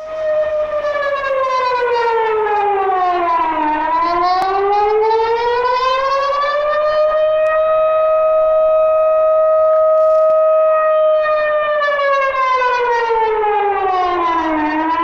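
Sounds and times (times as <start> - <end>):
wavering warning siren: 0.0 - 15.0.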